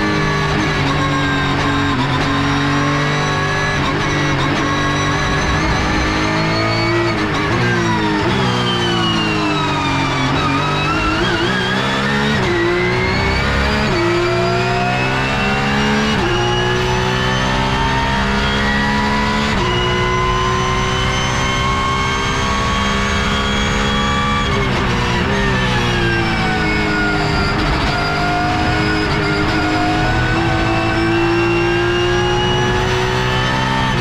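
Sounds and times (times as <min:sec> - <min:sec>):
race car engine revving: 0:00.0 - 0:34.0.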